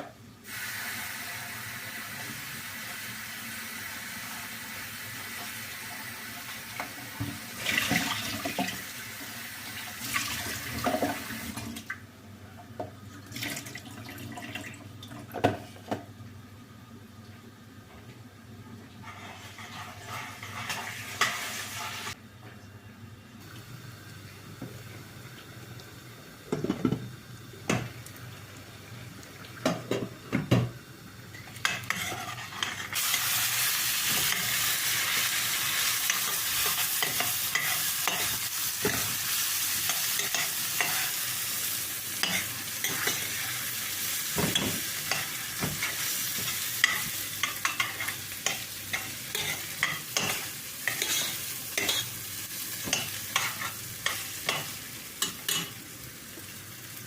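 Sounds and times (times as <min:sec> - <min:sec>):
food sizzling in a frying pan: 0:00.4 - 0:11.6, 0:19.0 - 0:22.2, 0:23.4 - 0:57.0.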